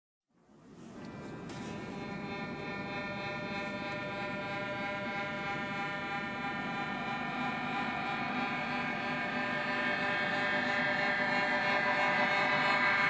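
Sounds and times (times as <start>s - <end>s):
droning tone with overtones: 0.3s - 13.0s.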